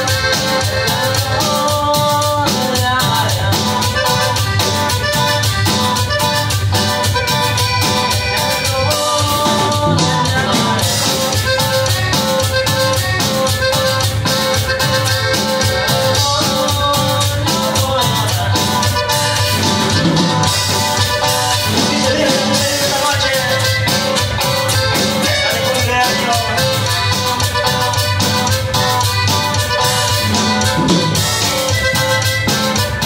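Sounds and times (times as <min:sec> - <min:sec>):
accordion: 0:00.0 - 0:33.0
drum kit: 0:00.0 - 0:33.0
electric guitar: 0:00.0 - 0:33.0
fast percussion rhythm: 0:00.0 - 0:33.0
keyboard: 0:00.0 - 0:33.0.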